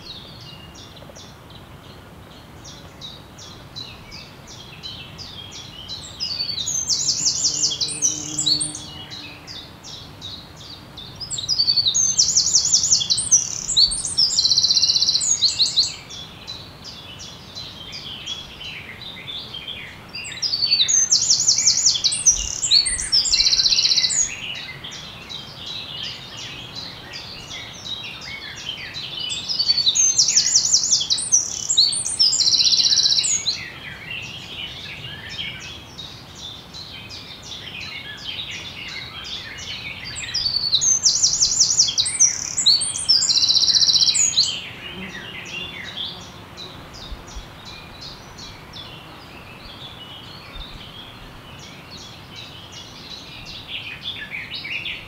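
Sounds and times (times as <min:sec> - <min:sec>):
chorus of songbirds: 0:00.0 - 0:55.0
nearby bird singing rapid trills: 0:00.0 - 0:55.0.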